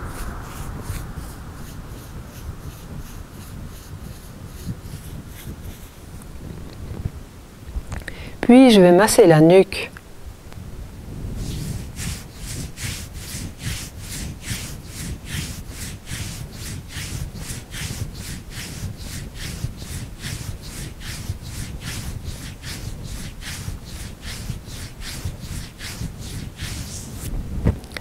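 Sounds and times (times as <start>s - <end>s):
hand rubbing skin and fabric: 0.0s - 6.6s, 11.3s - 27.3s.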